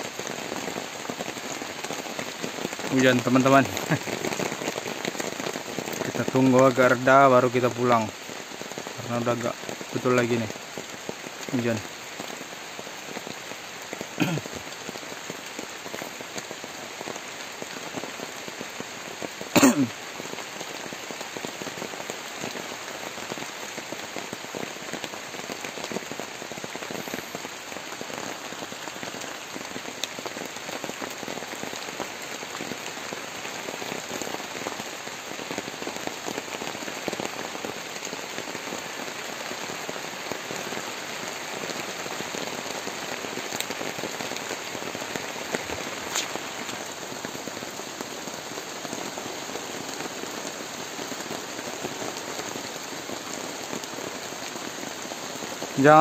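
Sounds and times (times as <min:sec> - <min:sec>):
heavy rain on plastic tarpaulin: 0:00.0 - 0:56.0.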